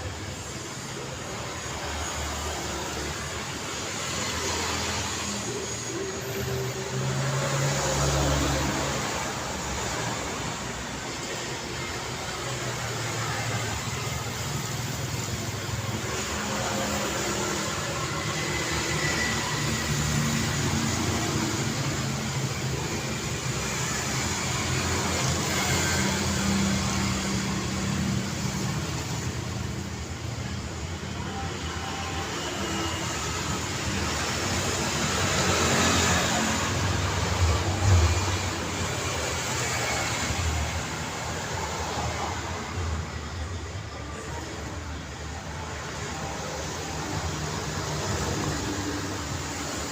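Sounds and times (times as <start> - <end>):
cars and motorbikes passing: 0.0 - 49.9.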